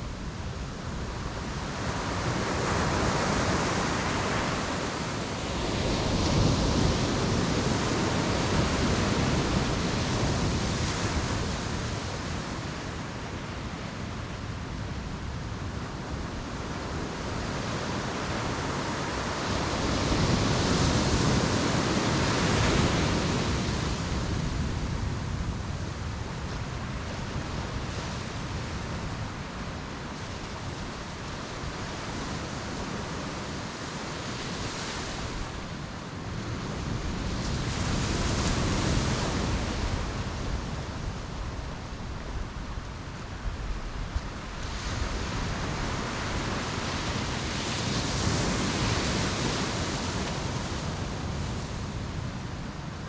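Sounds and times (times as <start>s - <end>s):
ocean waves on a beach: 0.0s - 53.0s.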